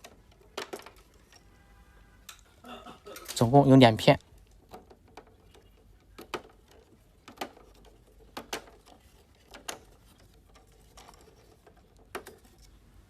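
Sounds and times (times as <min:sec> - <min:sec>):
plastic parts clicking and knocking: 0:00.0 - 0:01.5, 0:02.2 - 0:03.6, 0:04.2 - 0:12.9.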